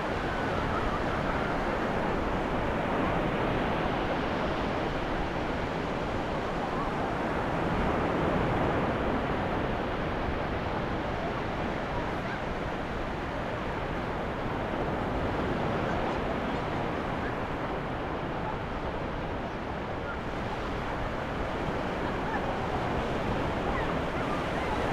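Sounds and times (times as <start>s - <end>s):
waves breaking on beach: 0.0s - 24.9s.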